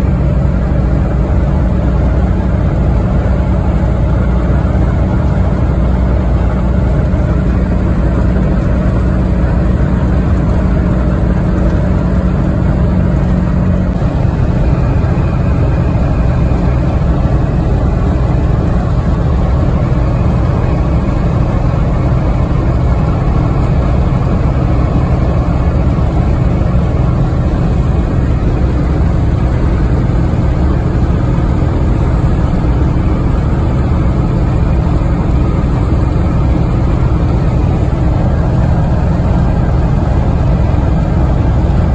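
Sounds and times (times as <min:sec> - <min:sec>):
diesel engine drone: 0:00.0 - 0:41.9
road noise: 0:00.0 - 0:41.9.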